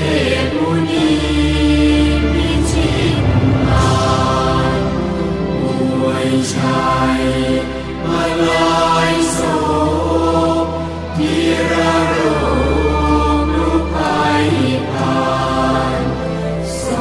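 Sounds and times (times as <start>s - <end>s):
musical accompaniment with low bass: 0.0s - 17.0s
person singing devotional song: 0.0s - 17.0s.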